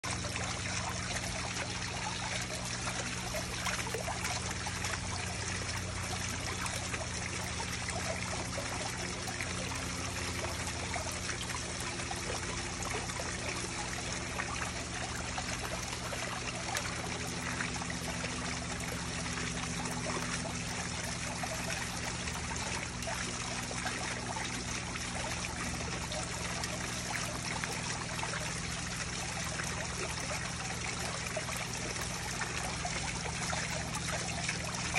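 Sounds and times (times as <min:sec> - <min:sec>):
fountain jet splashing: 0:00.0 - 0:34.9
steady low hum: 0:00.0 - 0:34.9
water trickling from ledge: 0:00.0 - 0:34.9.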